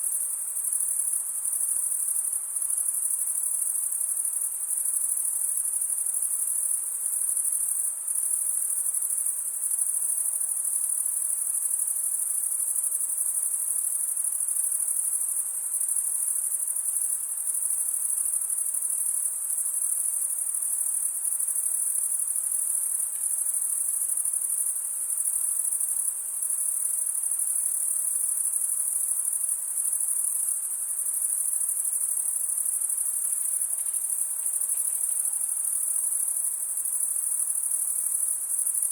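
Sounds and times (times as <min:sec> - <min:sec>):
faint low hiss: 0:00.0 - 0:38.9
insects chorus: 0:00.0 - 0:38.9.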